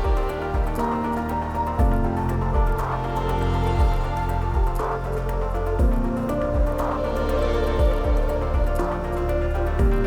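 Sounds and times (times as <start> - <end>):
low bass thumps: 0.0 - 5.1, 5.7 - 9.0, 9.8 - 10.0.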